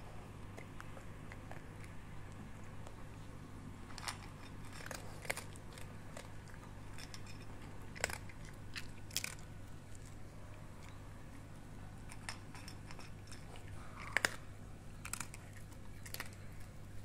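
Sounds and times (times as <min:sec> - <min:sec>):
dog crunching dry kibble: 0:00.4 - 0:17.0.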